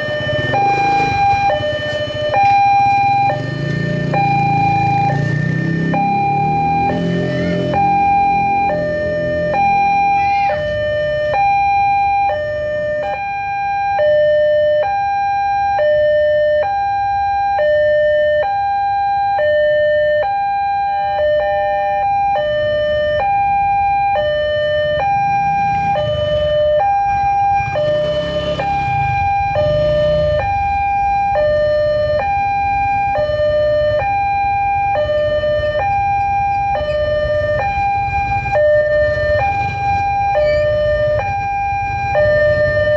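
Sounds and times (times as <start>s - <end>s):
road traffic rumble: 0.0s - 42.9s
two-tone crossing alarm: 0.0s - 42.9s.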